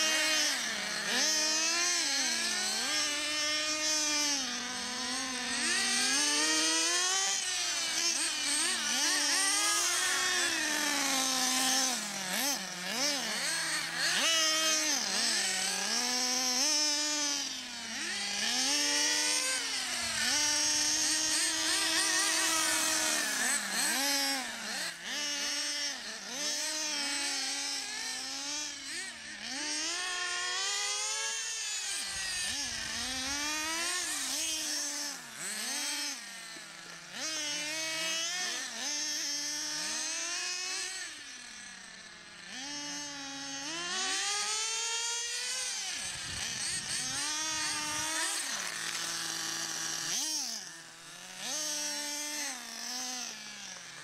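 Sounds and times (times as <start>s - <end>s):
model car engines revving: 0.0s - 54.0s.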